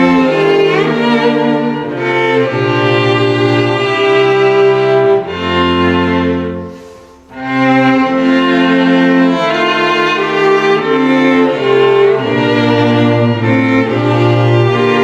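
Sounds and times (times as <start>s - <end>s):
held string chords: 0.0s - 15.0s.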